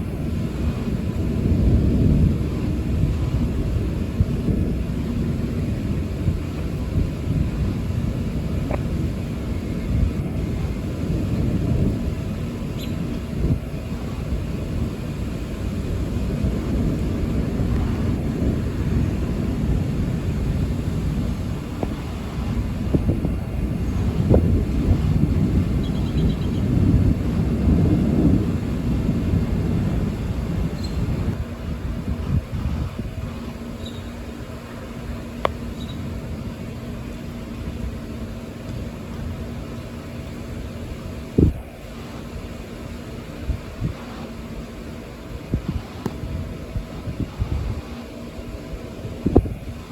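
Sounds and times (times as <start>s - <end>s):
steady rain: 0.0s - 49.9s
thunder rumbling: 0.0s - 49.9s
wind noise: 0.0s - 49.9s.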